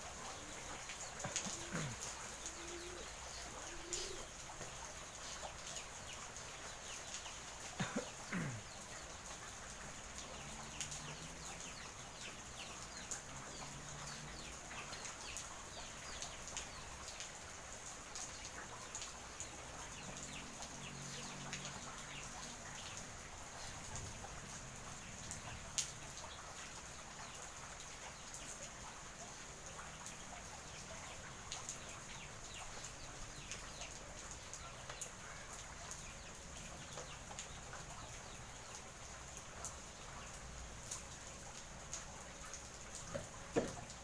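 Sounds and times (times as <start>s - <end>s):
drips and patters: 0.0s - 44.0s
rain falling: 0.0s - 44.0s.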